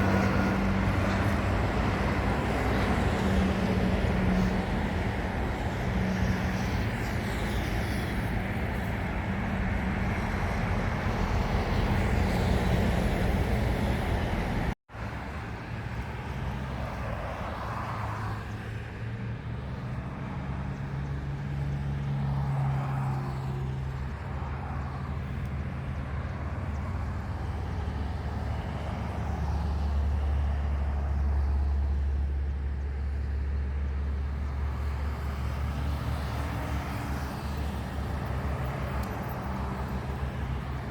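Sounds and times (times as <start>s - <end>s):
engines and traffic rumble: 0.0s - 40.9s.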